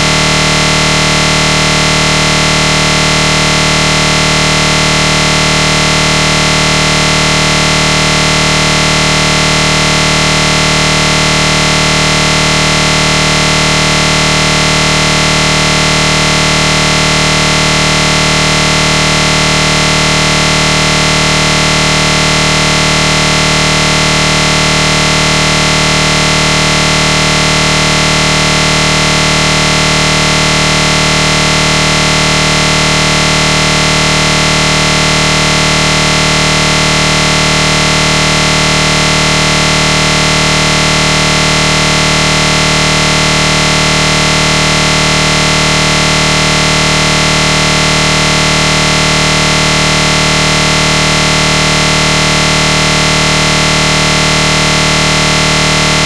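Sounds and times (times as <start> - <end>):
loud buzzing drone: 0.0 - 56.0.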